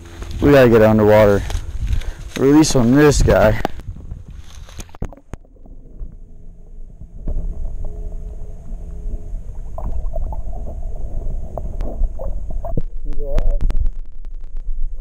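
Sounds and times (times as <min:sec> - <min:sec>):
muffled underwater water gurgling: 0:03.0 - 0:15.0.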